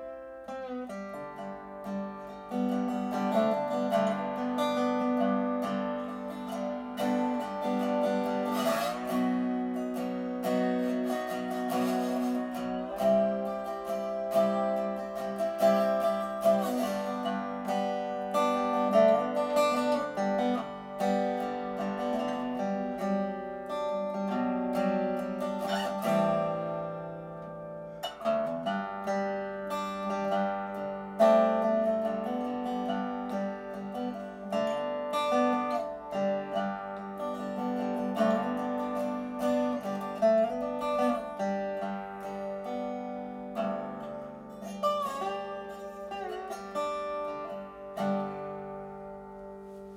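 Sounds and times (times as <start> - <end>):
plucked string music: 0.0 - 49.9.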